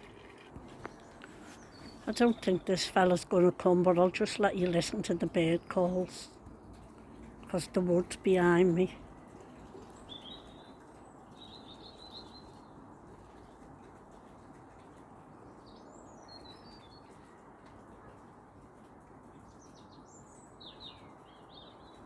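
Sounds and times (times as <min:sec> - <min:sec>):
songbirds twittering: 0:00.0 - 0:22.0
low background hiss: 0:01.2 - 0:22.0.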